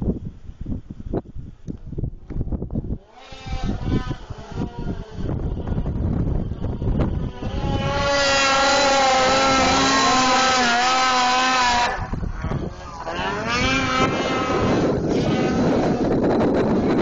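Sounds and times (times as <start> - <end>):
snowmobile engine revving: 3.0 - 17.0.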